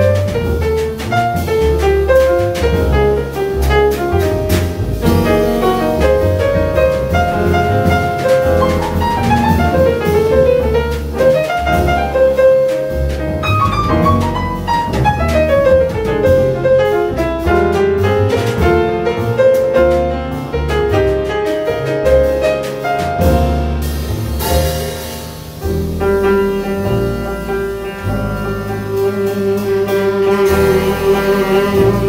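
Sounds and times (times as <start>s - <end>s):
drums: 0.0s - 32.0s
jazz piano: 0.0s - 32.0s
plucked double bass: 0.0s - 32.0s.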